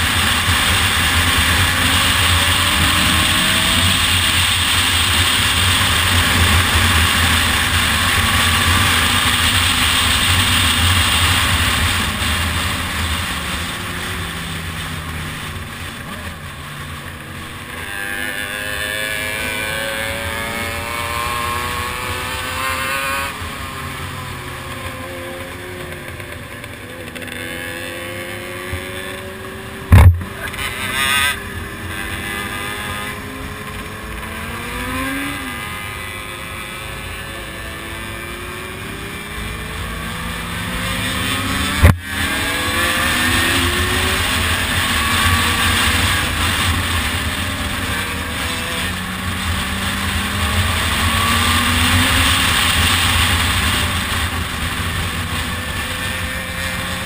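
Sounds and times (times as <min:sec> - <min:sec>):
motorcycle engines accelerating: 0:00.0 - 0:57.0.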